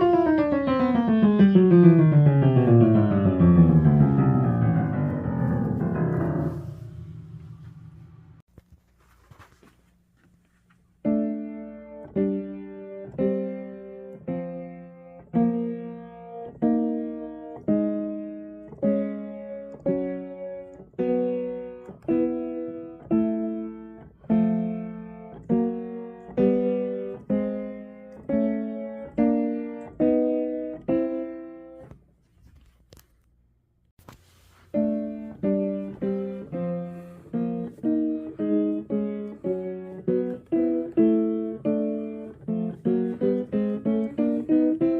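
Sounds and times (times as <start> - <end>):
piano playing chords: 0.0 - 8.5, 11.0 - 31.9, 34.7 - 44.9.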